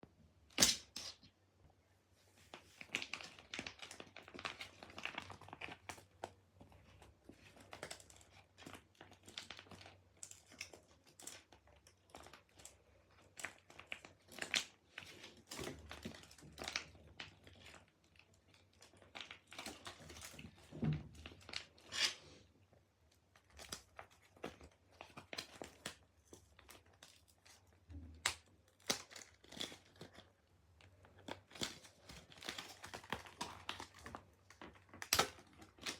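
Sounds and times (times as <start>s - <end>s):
plastic and tape crinkling: 2.4s - 22.4s, 23.1s - 35.9s.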